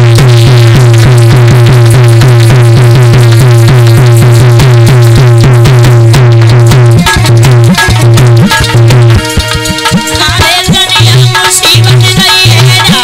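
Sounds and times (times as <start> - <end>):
fast repeated folk melody: 0.0 - 13.0.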